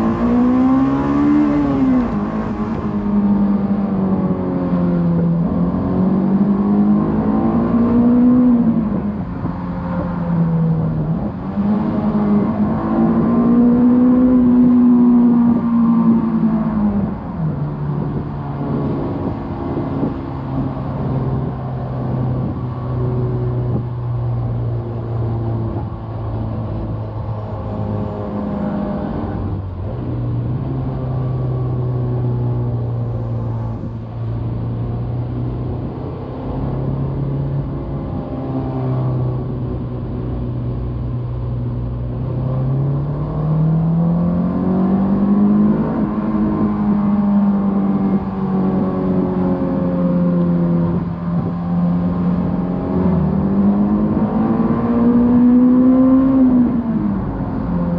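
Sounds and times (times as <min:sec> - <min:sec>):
car engine at steady revs: 0:00.0 - 0:57.9.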